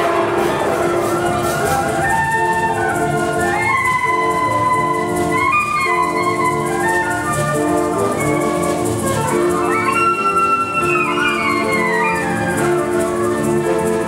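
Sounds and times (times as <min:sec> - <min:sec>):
flutes and clarinets melody: 0:00.0 - 0:14.0
wind orchestra held chords: 0:00.0 - 0:14.0.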